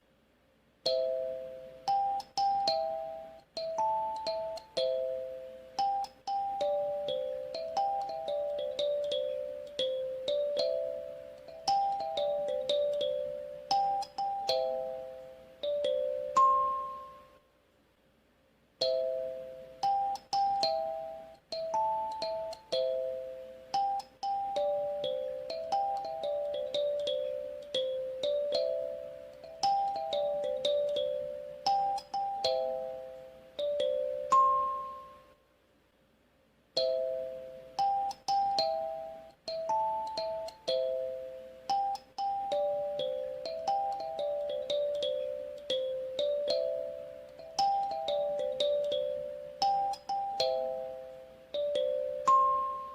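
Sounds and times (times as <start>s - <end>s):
kalimba melody: 0.8s - 17.4s, 18.8s - 35.4s, 36.8s - 52.9s.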